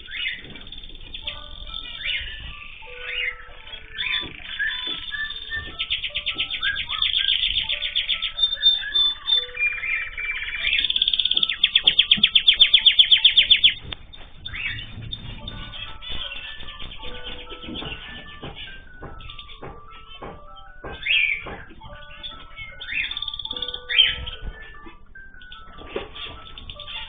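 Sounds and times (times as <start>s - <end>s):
caged birds chirping: 0.0s - 27.0s
fast bird song trills: 0.0s - 27.0s.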